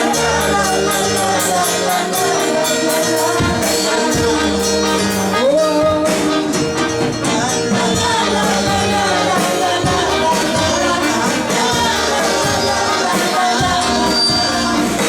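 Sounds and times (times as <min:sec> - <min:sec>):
congregation and band singing: 0:00.0 - 0:15.0.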